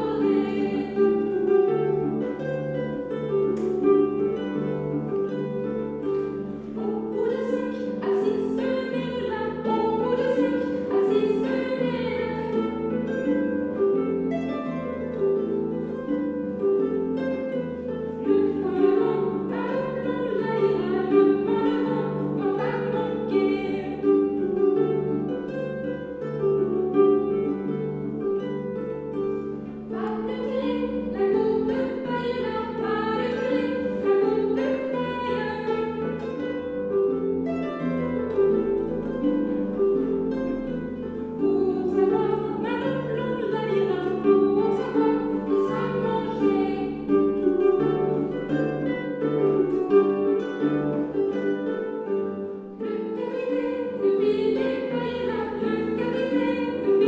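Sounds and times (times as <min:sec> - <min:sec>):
harp playing: 0:00.0 - 0:57.0.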